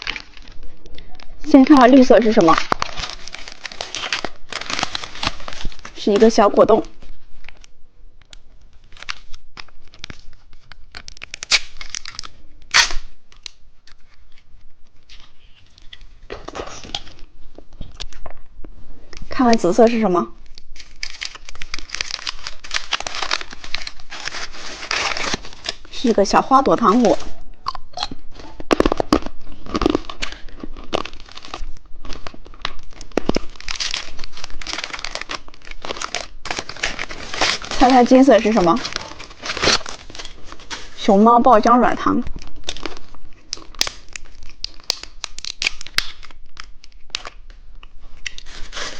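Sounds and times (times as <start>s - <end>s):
plastic packaging crinkling: 0.0s - 18.4s, 19.1s - 48.9s.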